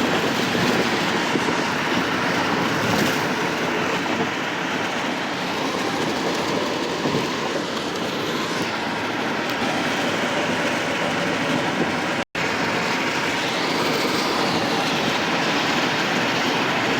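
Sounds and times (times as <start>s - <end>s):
vehicle road and tyre noise: 0.0s - 16.9s.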